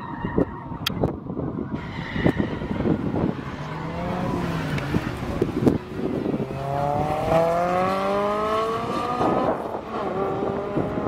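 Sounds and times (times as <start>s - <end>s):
distant race car engines: 0.0s - 11.0s
wind buffeting microphone: 0.0s - 11.0s.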